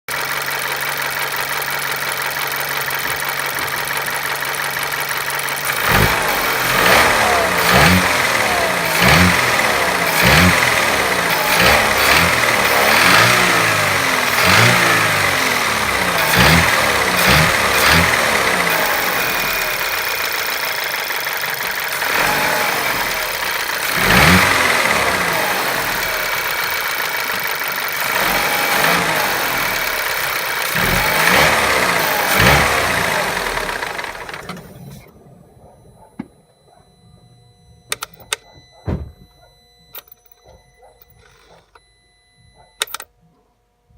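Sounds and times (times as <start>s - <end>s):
car engine idling and revving: 0.1s - 43.1s.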